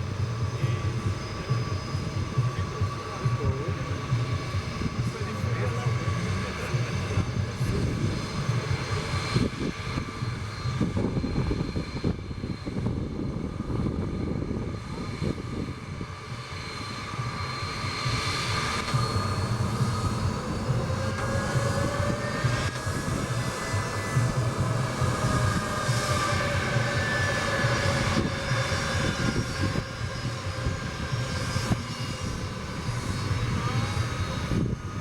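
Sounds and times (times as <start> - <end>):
jet engines running: 0.0 - 35.0.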